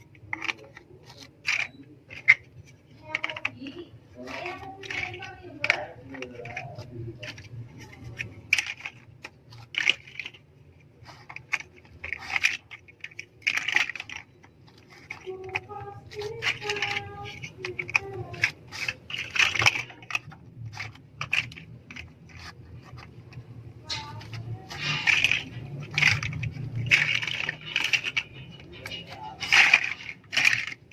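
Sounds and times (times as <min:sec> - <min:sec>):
plastic bricks clicking and rattling: 0:00.0 - 0:30.9.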